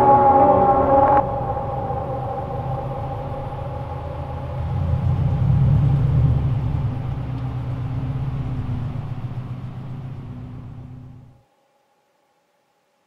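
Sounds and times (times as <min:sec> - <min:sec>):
car engine rumbling: 0:00.0 - 0:11.4.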